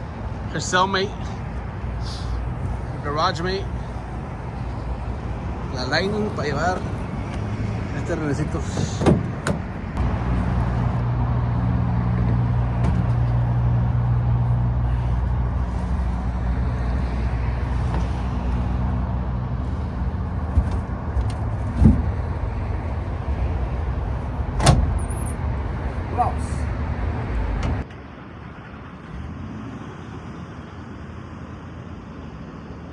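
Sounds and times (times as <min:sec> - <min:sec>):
truck engine idling: 0:00.0 - 0:32.8.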